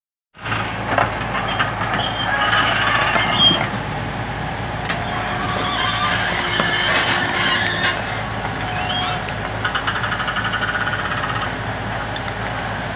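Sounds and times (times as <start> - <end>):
hydraulic whine: 0.4 - 12.5
excavator diesel engine: 0.4 - 12.9.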